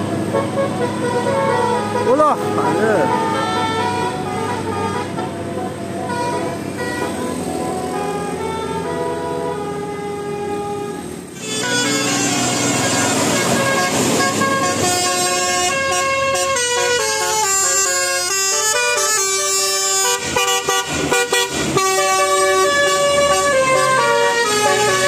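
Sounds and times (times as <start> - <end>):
multi-tone air horn melody: 0.0 - 25.0.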